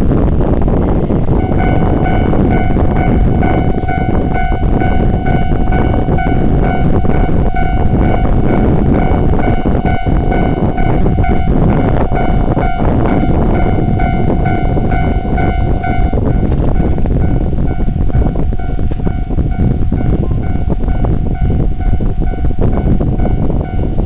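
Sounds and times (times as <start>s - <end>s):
train wheels rumbling on rails: 0.0s - 24.0s
high-pitched ringing tone: 1.2s - 24.0s.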